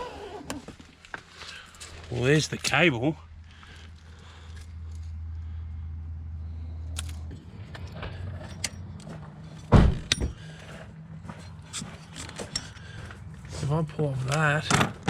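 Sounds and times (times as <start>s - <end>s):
low steady hum: 0.3s - 15.0s.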